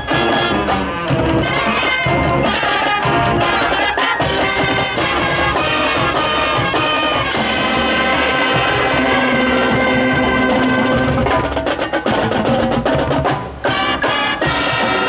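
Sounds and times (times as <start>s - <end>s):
brass and woodwinds: 0.0s - 15.0s
drums: 0.0s - 15.0s.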